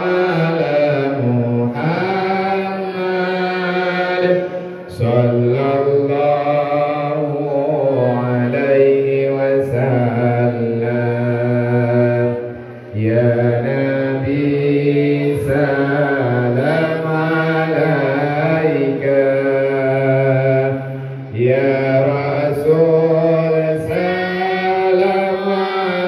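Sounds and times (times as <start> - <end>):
congregation singing along: 0.0 - 26.0
man chanting over a microphone: 0.0 - 26.0.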